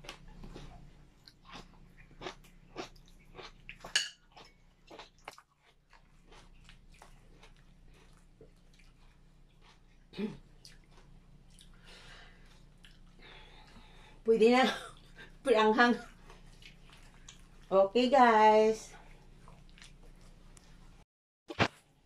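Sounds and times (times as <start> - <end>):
wet crunching of cabbage stirred: 0.0 - 14.0, 15.0 - 21.0.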